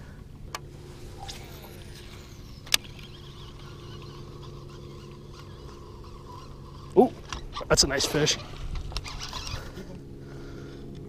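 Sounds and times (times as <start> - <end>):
trolling motor humming: 0.0 - 11.0.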